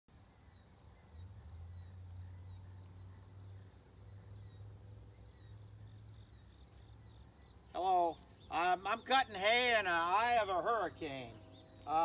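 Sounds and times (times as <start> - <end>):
crickets and insects chirring: 0.1 - 12.0
low steady hum: 1.3 - 12.0.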